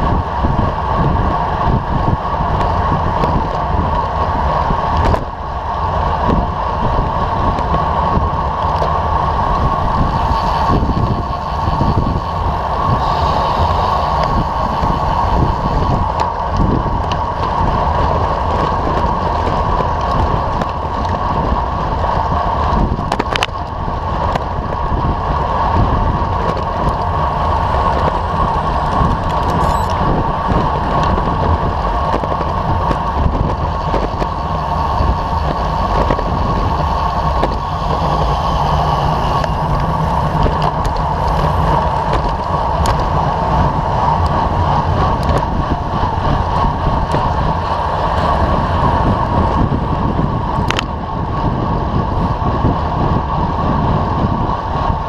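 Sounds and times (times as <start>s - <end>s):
tyre and road rumble: 0.0s - 55.0s
wind rush over microphone: 0.0s - 55.0s.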